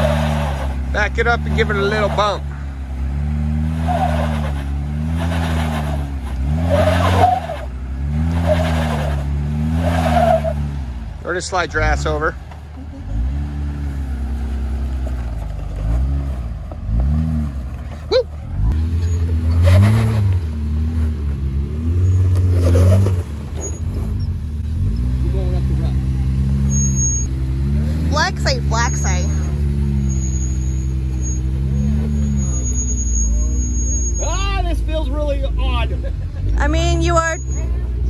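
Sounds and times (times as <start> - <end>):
engine revving: 0.0 - 38.0
tires squealing on rock: 0.0 - 38.0.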